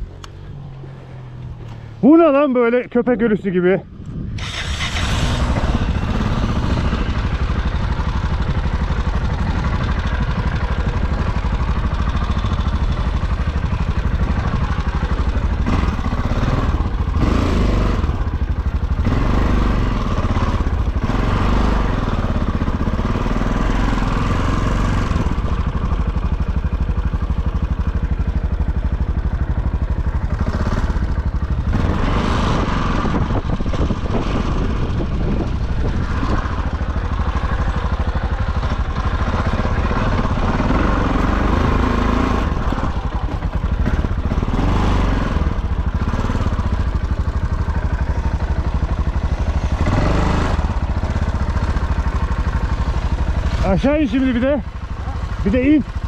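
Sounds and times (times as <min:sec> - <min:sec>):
off-road motorcycle engine running: 0:00.0 - 0:56.0.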